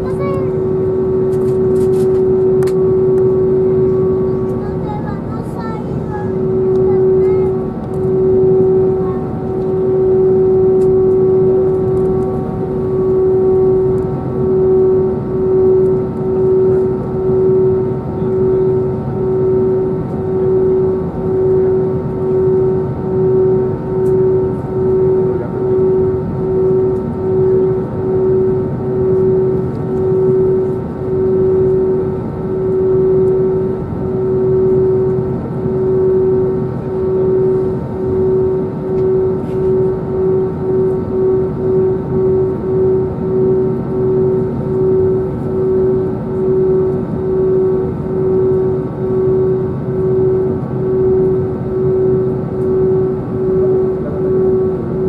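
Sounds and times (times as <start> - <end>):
jet engines idling hum: 0.0 - 55.0.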